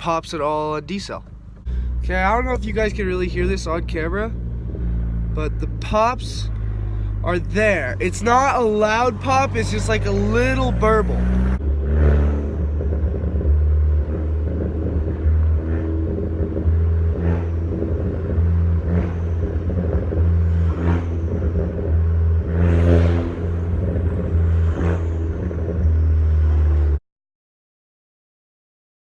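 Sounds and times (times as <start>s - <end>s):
car exhaust drone: 0.0s - 27.0s
sharp exhaust pops: 1.0s - 26.8s.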